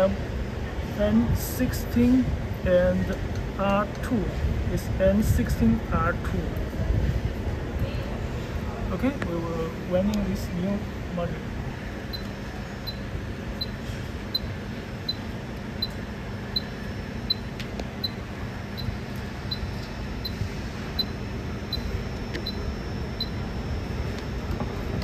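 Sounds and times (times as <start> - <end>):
workshop equipment humming: 0.0 - 25.0.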